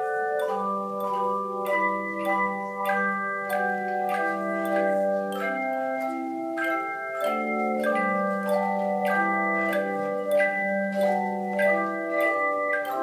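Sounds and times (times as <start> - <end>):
handbell chimes playing a tune: 0.0 - 13.0.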